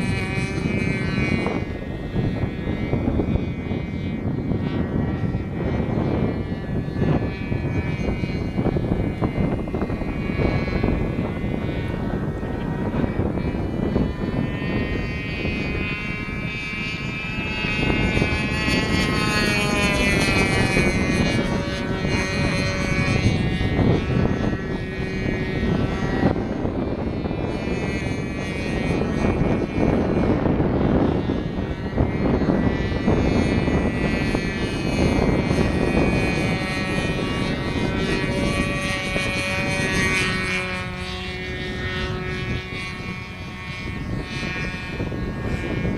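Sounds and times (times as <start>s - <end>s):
model aeroplane motor whine: 0.0s - 45.9s
steady rushing noise: 0.0s - 45.9s.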